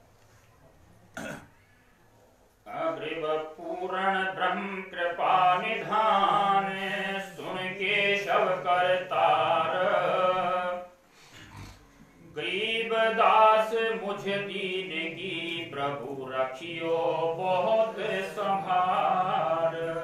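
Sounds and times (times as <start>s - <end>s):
man singing a chant: 2.7s - 11.0s, 12.2s - 20.0s.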